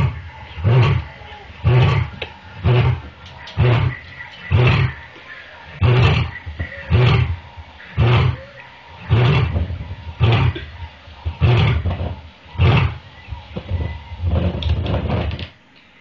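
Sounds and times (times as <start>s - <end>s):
lion roaring: 0.0s - 13.0s.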